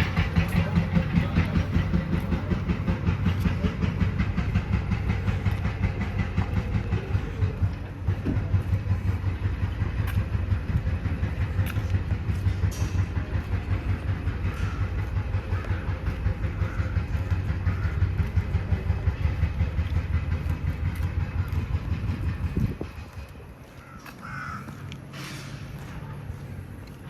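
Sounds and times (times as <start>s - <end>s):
demolition machinery rumbling: 0.0s - 27.0s.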